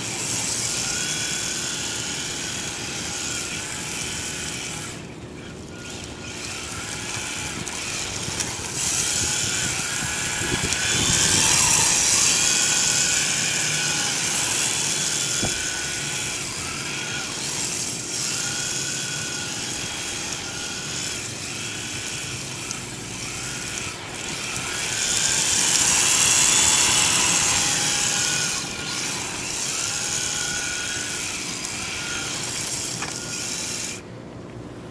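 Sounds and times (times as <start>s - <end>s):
electric motor whining: 0.0s - 34.1s.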